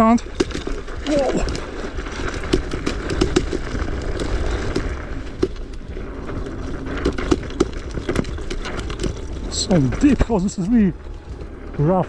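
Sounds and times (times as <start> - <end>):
scooter rattling over rocky ground: 0.0 - 12.0.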